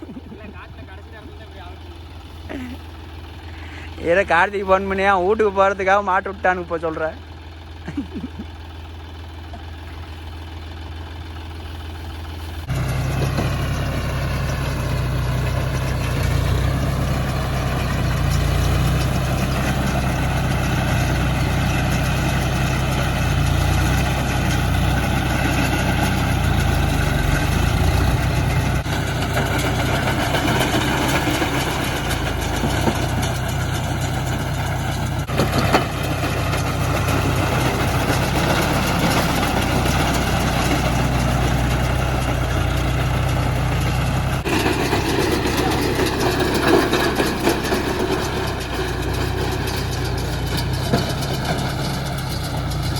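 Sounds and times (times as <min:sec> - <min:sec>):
tractor diesel engine running: 0:00.0 - 0:52.9
clatter: 0:09.3 - 0:52.9.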